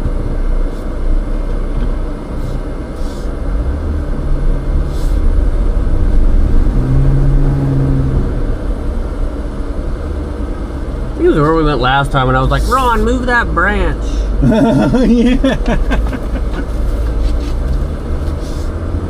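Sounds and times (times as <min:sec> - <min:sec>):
off-road vehicle engine rumbling: 0:00.0 - 0:19.0.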